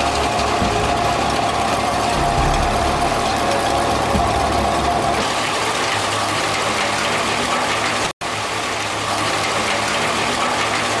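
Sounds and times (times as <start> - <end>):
wood chipper running: 0.0 - 11.0.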